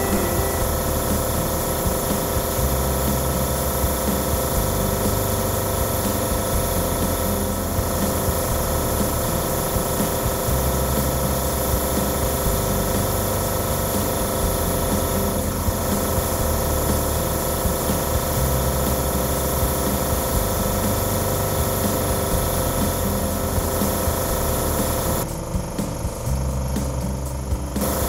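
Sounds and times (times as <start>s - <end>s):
airbrush spraying hiss: 0.0s - 28.0s
compressor pulsing hum: 0.0s - 28.0s.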